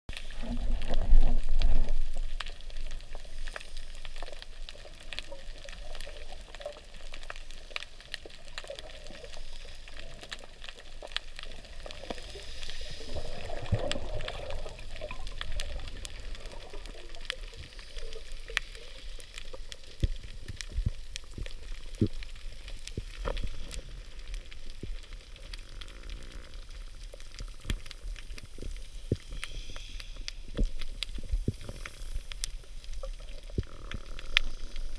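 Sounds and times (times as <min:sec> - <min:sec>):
sharp underwater clicks and crackles: 0:00.1 - 0:34.9
underwater water wash: 0:00.1 - 0:34.9.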